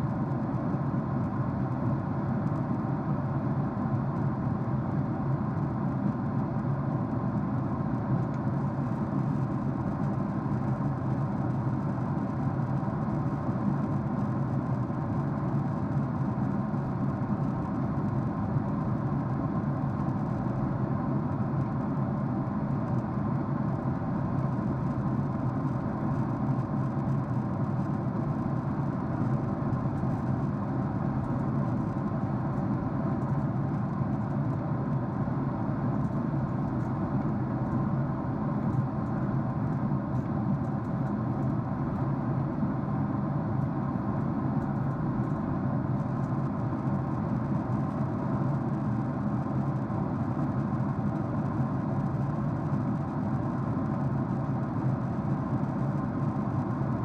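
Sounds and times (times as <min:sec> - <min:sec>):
jet airliner cabin drone: 0:00.0 - 0:57.0.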